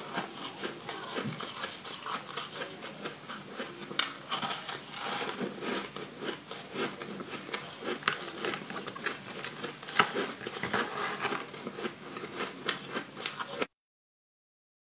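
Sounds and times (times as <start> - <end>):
chewing crunchy ice: 0.0 - 13.7.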